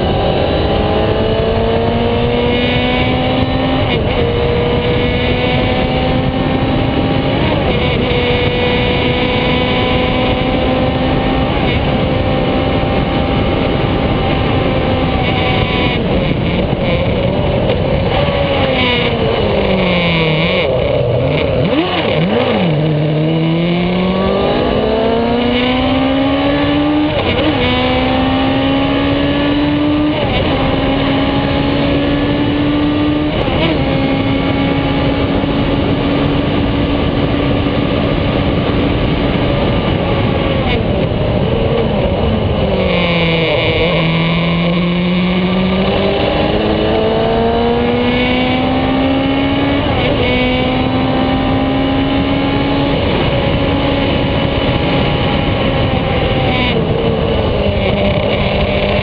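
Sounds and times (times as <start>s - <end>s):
race car engine revving: 0.0s - 59.0s
wind rush: 0.0s - 59.0s.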